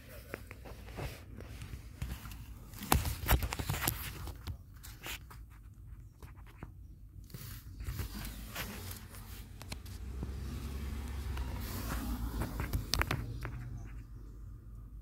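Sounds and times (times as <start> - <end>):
scraping and rustling: 0.0 - 14.3.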